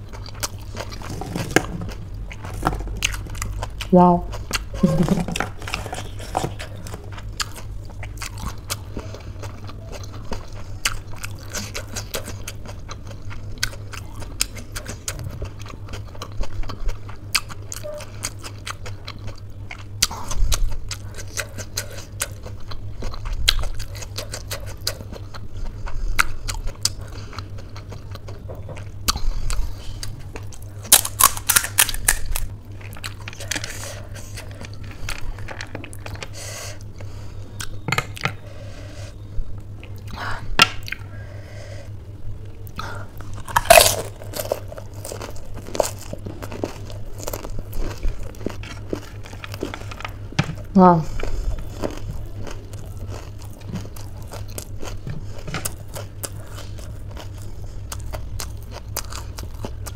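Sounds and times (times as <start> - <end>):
chewing and crunching crisp shells: 0.0 - 59.9.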